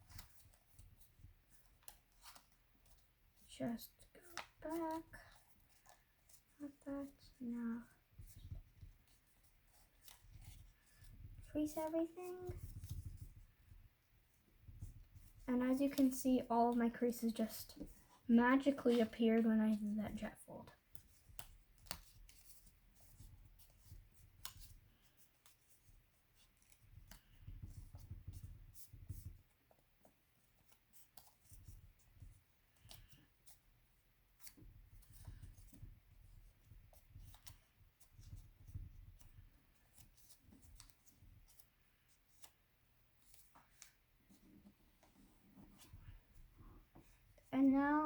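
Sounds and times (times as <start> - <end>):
paper folding and creasing: 0.0 - 13.8, 14.6 - 33.6, 34.3 - 42.6, 43.2 - 47.5.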